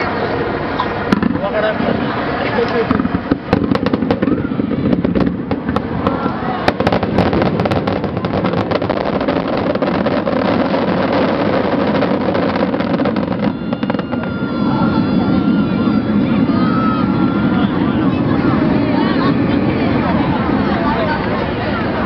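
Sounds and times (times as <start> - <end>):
continuous din: 0.0 - 22.0
fireworks bangs and crackles: 0.1 - 22.0.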